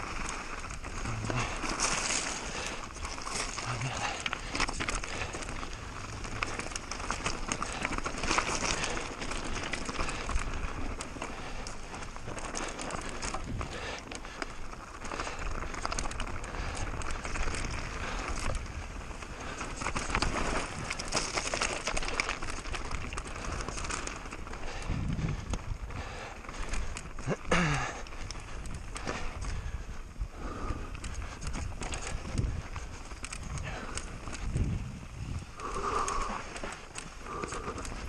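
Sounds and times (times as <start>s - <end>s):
bike rattling: 0.0s - 38.0s
tyres crunching over loose ground: 0.0s - 38.0s
wind noise: 0.0s - 38.0s.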